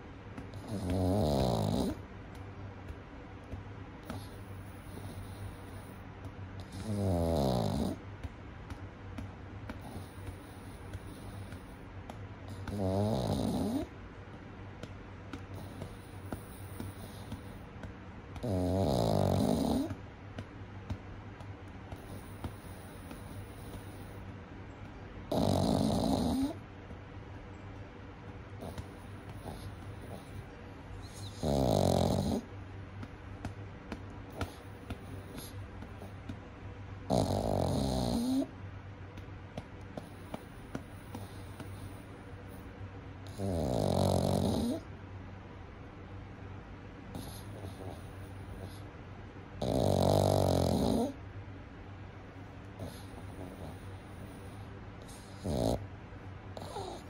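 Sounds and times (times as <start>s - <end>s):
quiet breathing: 0.4s - 12.8s, 13.6s - 43.4s, 47.0s - 49.6s, 52.3s - 57.0s
puppy snoring: 0.4s - 14.1s, 14.8s - 21.0s, 21.8s - 26.8s, 28.5s - 36.4s, 37.0s - 38.6s, 39.6s - 44.9s, 47.1s - 48.9s, 49.5s - 51.3s, 52.4s - 57.0s.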